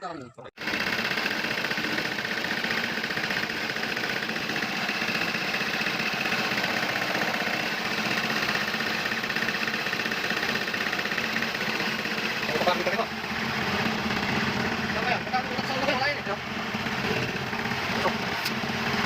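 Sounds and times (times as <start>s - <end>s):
excavator diesel engine running: 0.6s - 19.0s.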